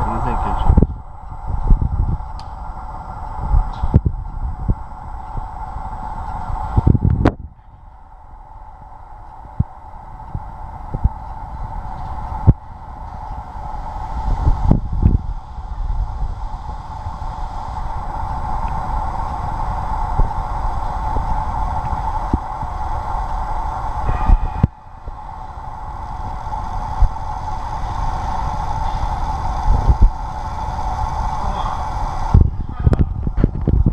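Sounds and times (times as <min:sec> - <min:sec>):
machine hum over low rumble: 0:00.0 - 0:33.9.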